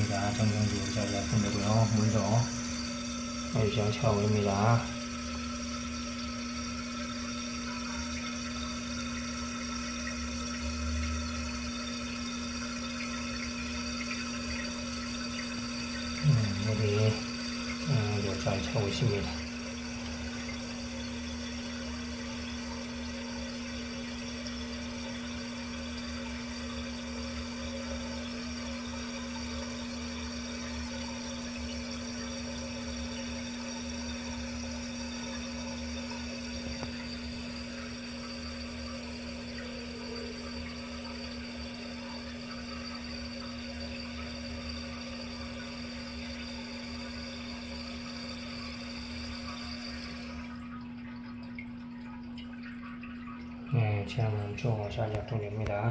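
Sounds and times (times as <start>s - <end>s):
steady low hum: 0.0s - 55.9s
toilet cistern refilling: 0.0s - 55.9s.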